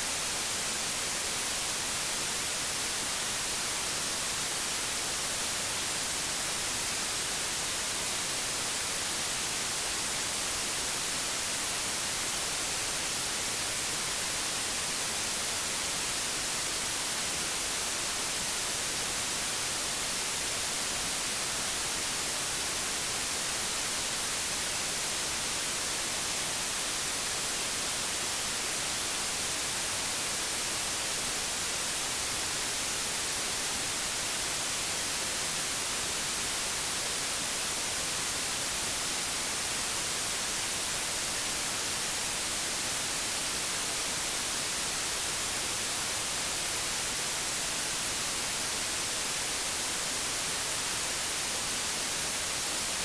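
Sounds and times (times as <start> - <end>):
television static hiss: 0.0 - 53.0.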